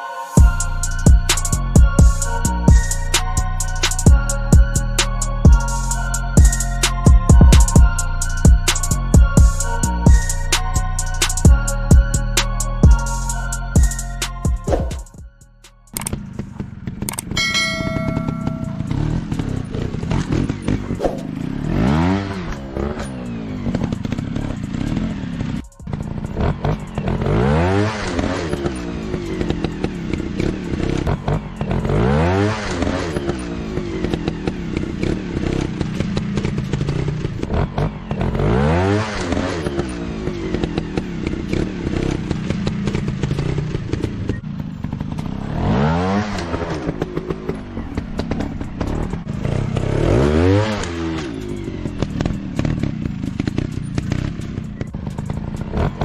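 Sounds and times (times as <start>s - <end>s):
motorcycle engine revving: 0.4s - 56.0s.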